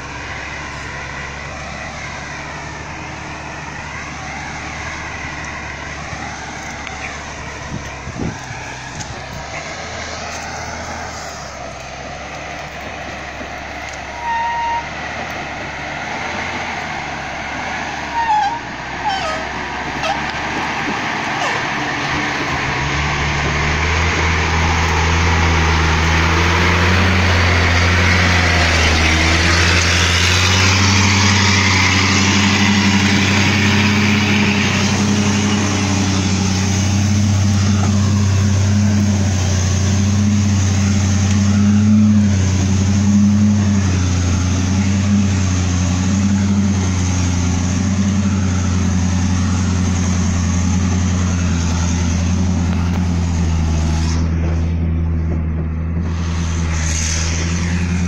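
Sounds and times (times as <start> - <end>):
truck engine under load: 0.0 - 58.0.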